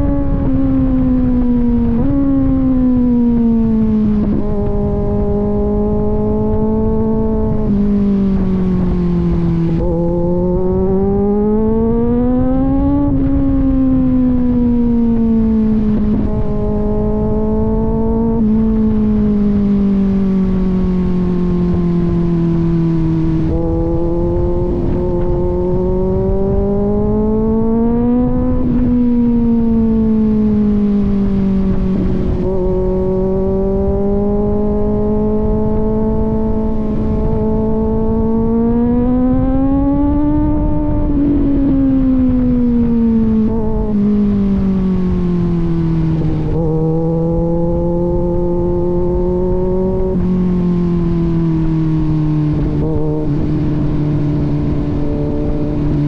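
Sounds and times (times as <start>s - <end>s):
gear shift pitch drops: 0.0s - 56.0s
motorcycle engine revving: 0.0s - 56.0s.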